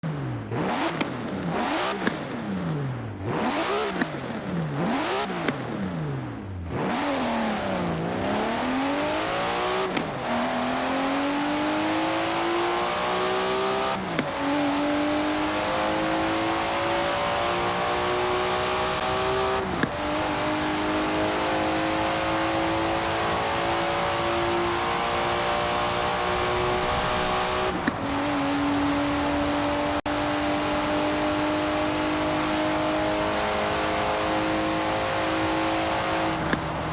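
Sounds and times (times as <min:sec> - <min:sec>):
car engine revving: 0:00.5 - 0:36.9
car accelerating through gears: 0:02.9 - 0:05.7, 0:06.7 - 0:36.9.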